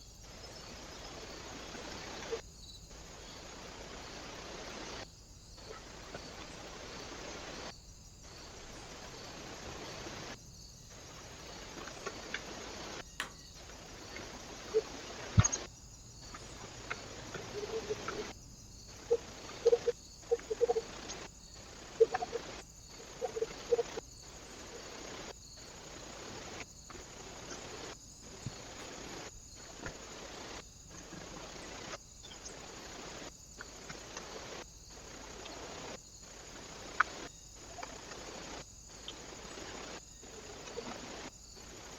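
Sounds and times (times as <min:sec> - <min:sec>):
microphone hiss: 0:00.0 - 0:41.9.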